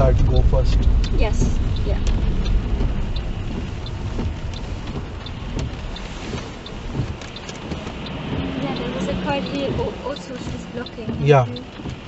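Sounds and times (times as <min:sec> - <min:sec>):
car road and engine noise: 0:00.0 - 0:12.0
light ticks: 0:00.0 - 0:12.0.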